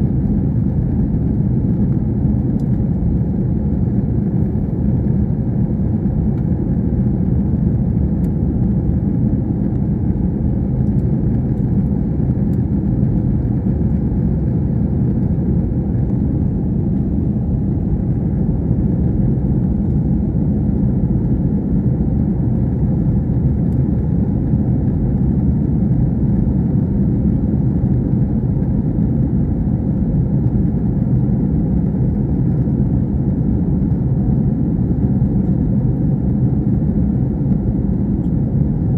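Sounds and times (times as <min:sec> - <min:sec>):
jet engines and rushing air: 0:00.0 - 0:38.9.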